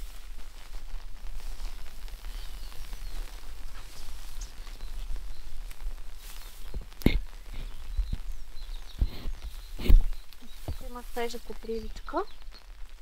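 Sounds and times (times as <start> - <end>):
light rain patter: 0.0 - 13.0
rustling vegetation: 0.0 - 13.0.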